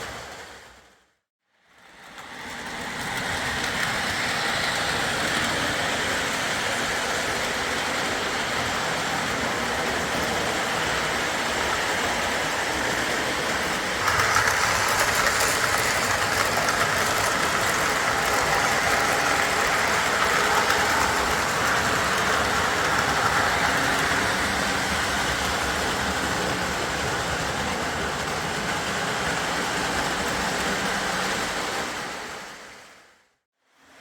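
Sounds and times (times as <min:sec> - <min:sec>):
model train rumbling on track: 0:00.0 - 0:00.9, 0:01.7 - 0:33.1.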